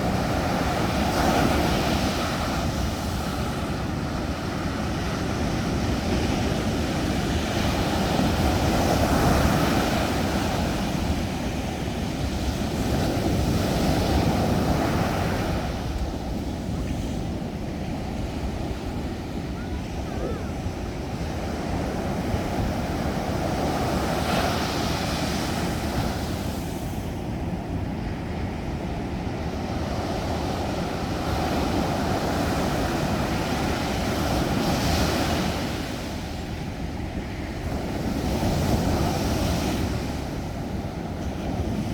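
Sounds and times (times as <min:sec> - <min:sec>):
sea surf breaking on beach: 0:00.0 - 0:41.9.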